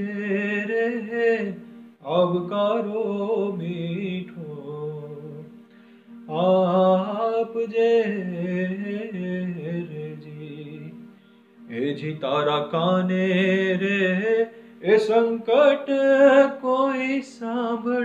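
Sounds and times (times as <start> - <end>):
man singing devotional song: 0.0 - 5.6, 6.3 - 11.0, 11.7 - 18.0.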